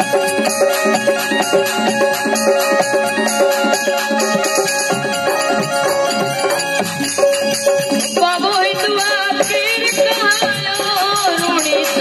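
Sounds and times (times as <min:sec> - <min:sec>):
drum and rattling percussion: 0:00.0 - 0:12.0
ornamented melody line: 0:00.0 - 0:12.0.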